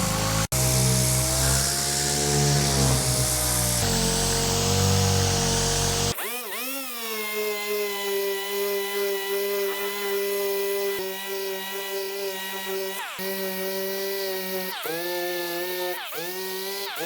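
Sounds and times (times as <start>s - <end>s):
sander grinding and whining: 0.0s - 17.0s.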